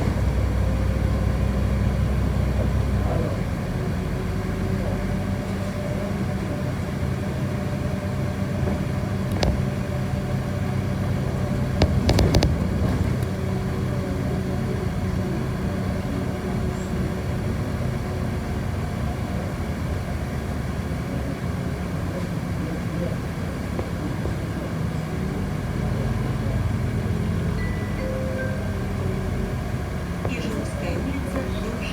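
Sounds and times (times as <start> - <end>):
bus engine drone: 0.0 - 31.9.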